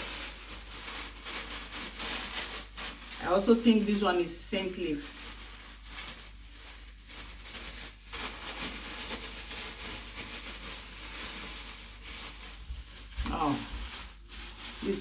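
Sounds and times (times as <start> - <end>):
plastic packs crinkling: 0.0 - 15.0.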